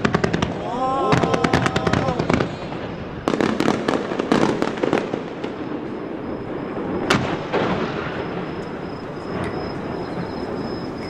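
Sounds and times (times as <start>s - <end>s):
firework bang: 0.0s - 11.0s
fireworks crackling pops: 0.0s - 11.0s.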